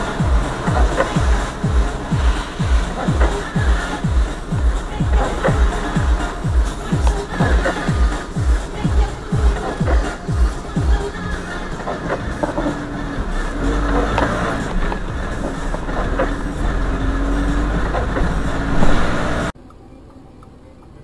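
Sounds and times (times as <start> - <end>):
loud burst of road noise: 0.0 - 19.6
vehicle road rumble: 0.0 - 21.0.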